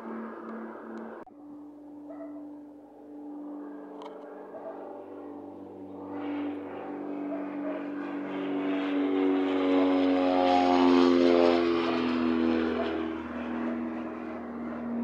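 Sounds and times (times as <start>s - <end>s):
propeller plane passing overhead: 0.0s - 15.0s.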